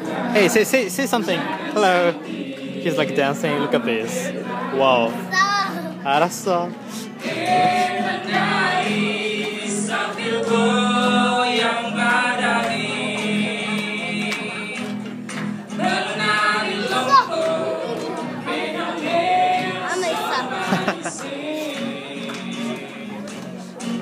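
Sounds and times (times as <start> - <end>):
choir singing in harmony: 0.0 - 6.2, 6.9 - 14.9, 15.6 - 23.4.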